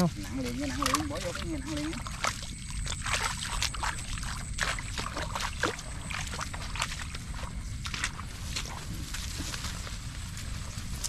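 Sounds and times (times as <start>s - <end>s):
footsteps on overgrown path: 0.0s - 11.0s
grass brushing and crackling: 0.0s - 11.0s.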